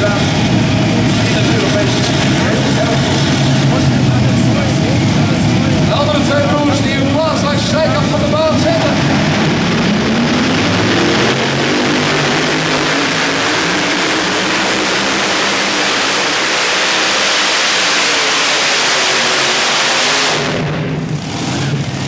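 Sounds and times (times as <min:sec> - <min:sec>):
tractor engines roaring: 0:00.0 - 0:22.0.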